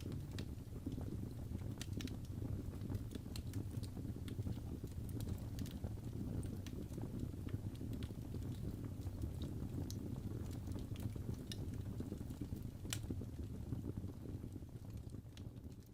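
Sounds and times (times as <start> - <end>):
fire crackles and pops: 0.0 - 15.9
wood fire flames rumbling: 0.0 - 15.9.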